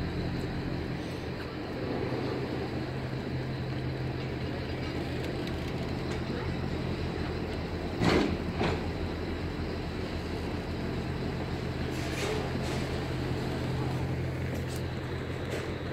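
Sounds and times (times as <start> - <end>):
ferry engines droning: 0.0 - 15.9.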